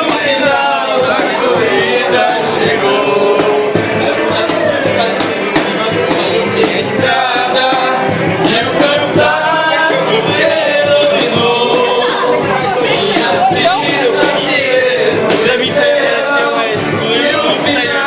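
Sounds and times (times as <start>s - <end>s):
men singing over music: 0.0s - 18.0s.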